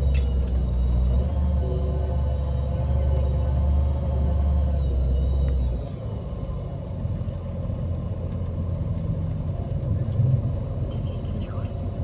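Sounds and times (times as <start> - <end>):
bus engine drone: 0.0 - 12.0
road rumble: 0.0 - 12.0.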